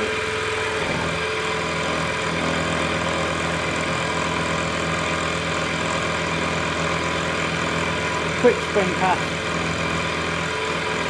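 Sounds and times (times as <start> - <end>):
milling machine cutting metal: 0.0 - 11.0.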